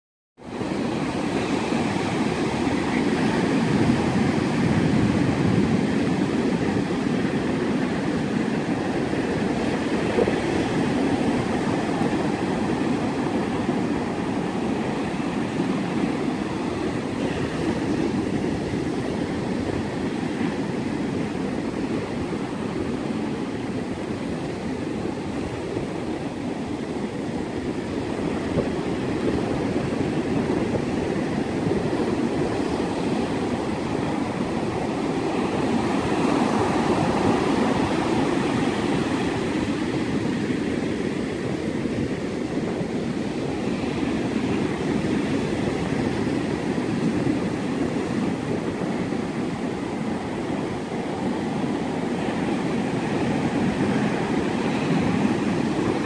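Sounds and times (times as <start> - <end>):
ocean surf breaking on beach: 0.4 - 56.0
strong wind: 0.4 - 56.0.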